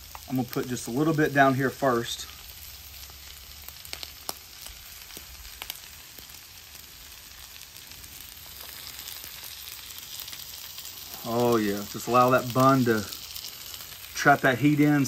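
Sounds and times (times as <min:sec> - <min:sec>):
meat and onions sizzling on griddle: 0:00.0 - 0:15.0.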